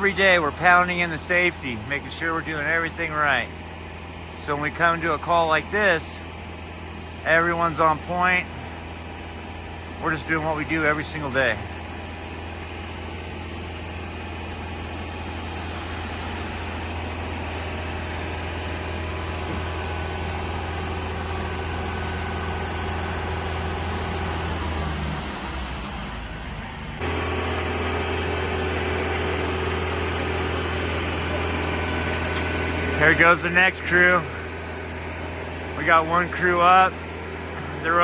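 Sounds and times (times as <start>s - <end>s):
large engine idling: 0.0s - 38.0s.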